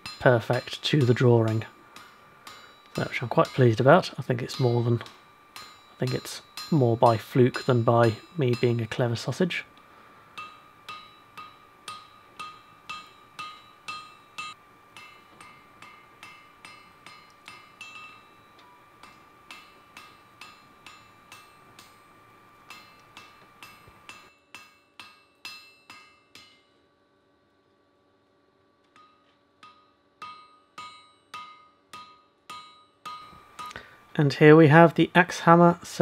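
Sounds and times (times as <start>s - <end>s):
hammer striking iron on anvil: 0.0s - 26.8s, 28.9s - 34.0s.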